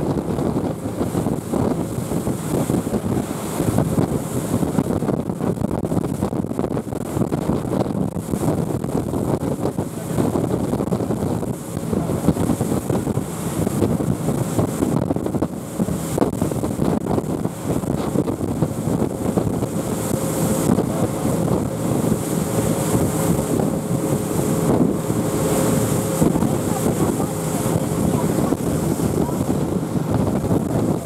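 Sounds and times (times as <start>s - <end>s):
outboard engines running: 0.0s - 31.0s
water rushing past hull: 0.0s - 31.0s
wind buffeting microphone: 0.0s - 31.0s.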